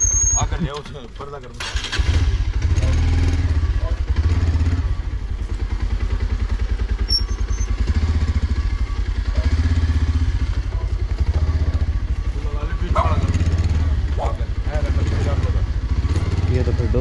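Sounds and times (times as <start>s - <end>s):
motorcycle engine at low revs: 1.6s - 17.0s.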